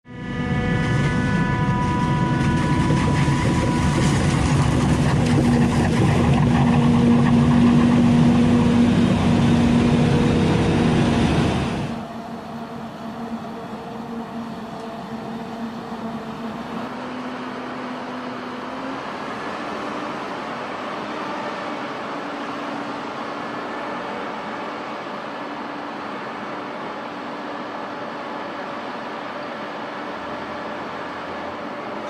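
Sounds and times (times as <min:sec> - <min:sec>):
harvester machine noise with whine: 0:00.0 - 0:32.0.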